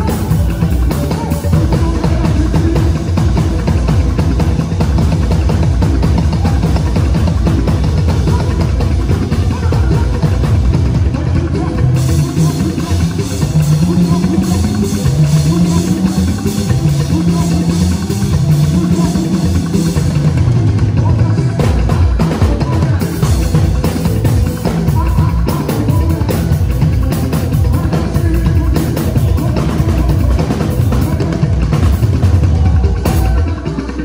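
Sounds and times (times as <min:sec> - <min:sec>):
bass line: 0:00.0 - 0:34.0
drum kit groove: 0:00.0 - 0:34.0
live gospel band music: 0:00.0 - 0:34.0.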